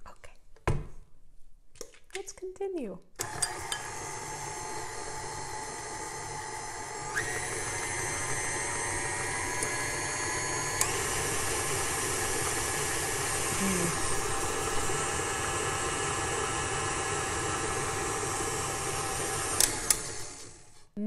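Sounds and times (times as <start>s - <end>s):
stand mixer running: 3.2s - 20.8s.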